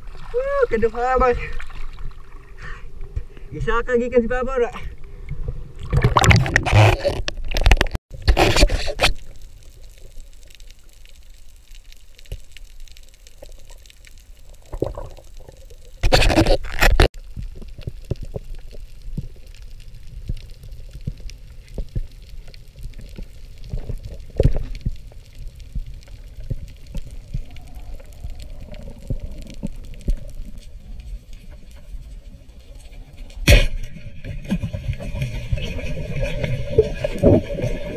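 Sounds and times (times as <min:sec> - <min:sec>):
water splashing and churning: 0:00.0 - 0:02.6, 0:05.6 - 0:10.0, 0:13.4 - 0:37.9
faint clicking and crackling: 0:06.5 - 0:37.9.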